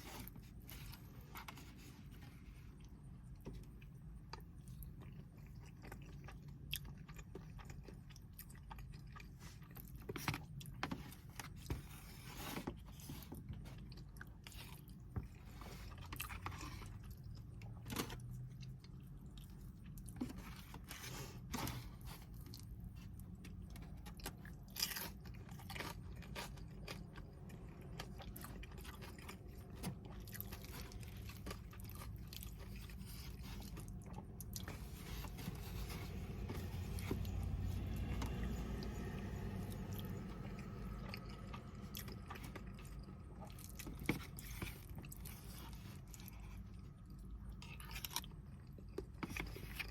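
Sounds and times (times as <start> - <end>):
low steady rumble: 0.0 - 49.9
person chewing food: 0.0 - 49.9.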